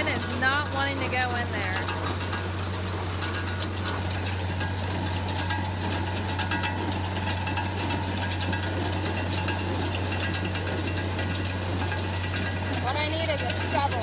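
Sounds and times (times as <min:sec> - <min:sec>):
baler clatter and knocking: 0:00.0 - 0:14.0
tractor engine drone: 0:00.0 - 0:14.0.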